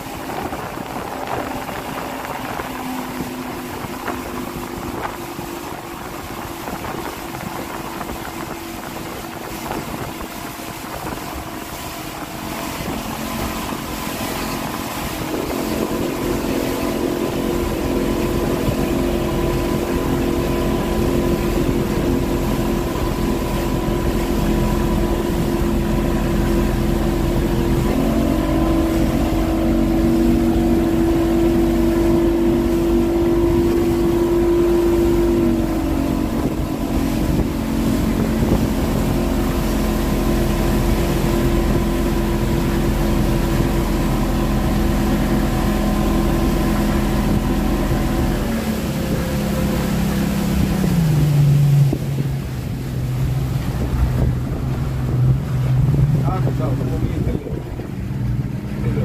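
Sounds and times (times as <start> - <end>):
motorboat engine running: 0.0 - 59.0
rushing water: 0.0 - 59.0
wind noise: 0.0 - 59.0.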